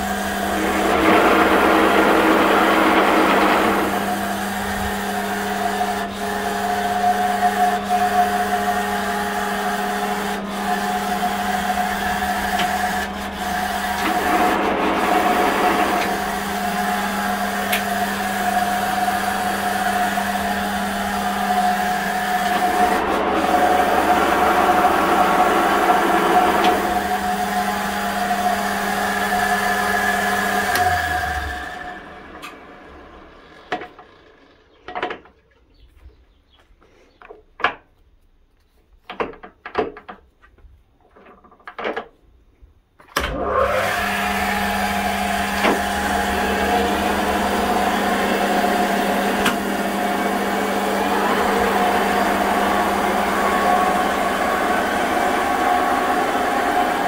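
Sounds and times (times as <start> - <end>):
lathe running: 0.0 - 34.6, 43.2 - 57.0
lathe running down: 0.0 - 34.8, 43.2 - 57.0.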